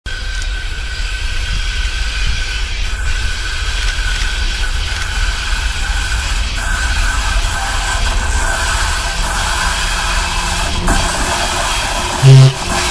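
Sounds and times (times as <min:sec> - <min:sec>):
electric locomotive rumble and whine: 0:00.1 - 0:12.9.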